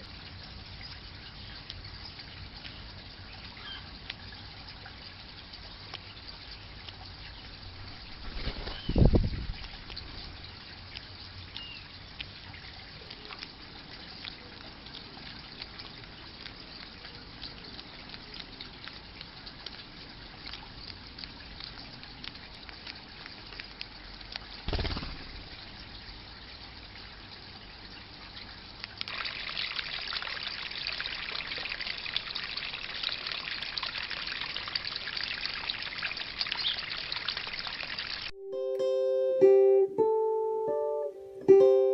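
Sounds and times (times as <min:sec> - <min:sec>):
water trickling: 0:00.0 - 0:40.8.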